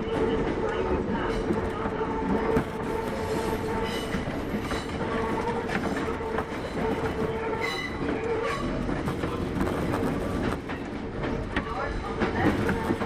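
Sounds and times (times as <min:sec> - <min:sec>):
electric train humming: 0:00.0 - 0:13.0
wheels rumbling on rails: 0:00.0 - 0:13.0.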